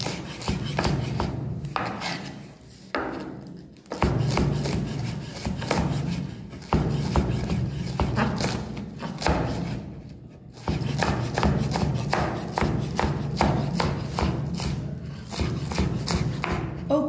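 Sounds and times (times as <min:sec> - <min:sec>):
knife chopping on wooden board: 0:00.0 - 0:02.3, 0:02.9 - 0:16.8.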